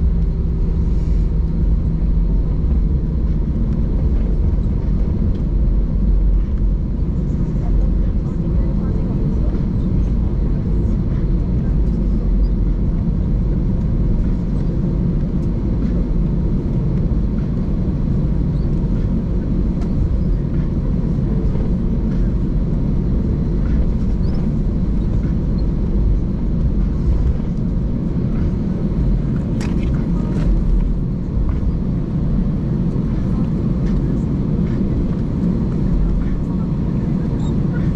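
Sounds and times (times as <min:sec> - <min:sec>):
aircraft cabin rumble: 0:00.0 - 0:37.9.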